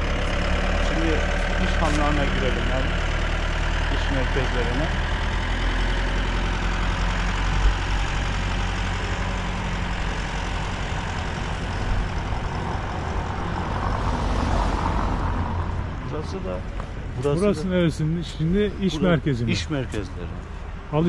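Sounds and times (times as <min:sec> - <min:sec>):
road noise: 0:00.0 - 0:21.0
vehicle engine running: 0:00.0 - 0:21.0.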